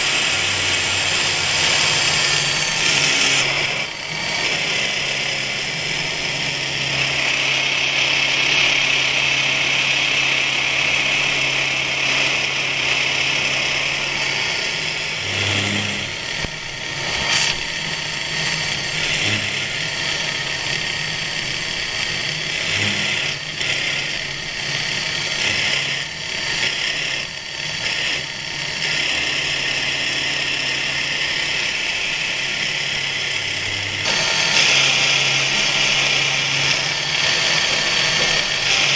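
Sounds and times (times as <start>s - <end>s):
milling cutter hissing: 0.0s - 8.0s, 13.4s - 38.9s
spindle motor hum: 0.0s - 38.9s.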